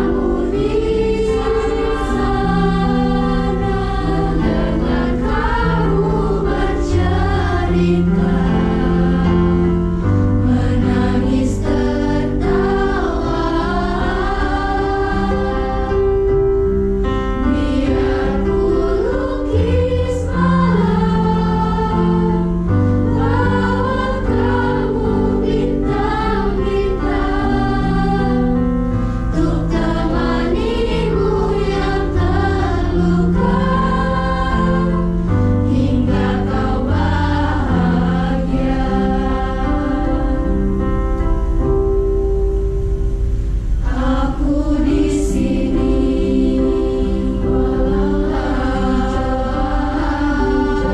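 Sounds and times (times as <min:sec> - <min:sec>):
youth choir singing pop song: 0:00.0 - 0:40.8, 0:43.6 - 0:50.9
electric keyboard: 0:00.0 - 0:50.9.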